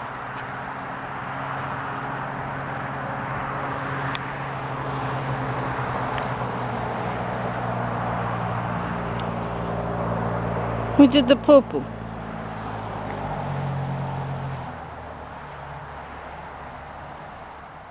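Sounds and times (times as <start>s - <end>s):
vehicle engine humming: 0.0s - 17.9s.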